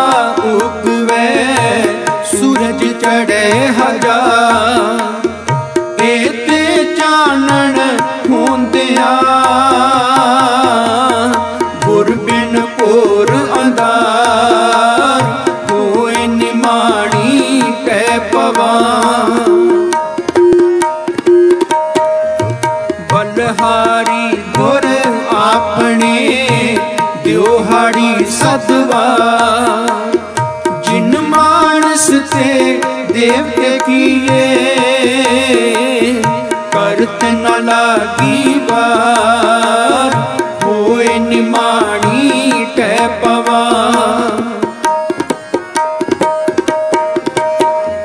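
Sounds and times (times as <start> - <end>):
tabla playing: 0.0 - 48.0.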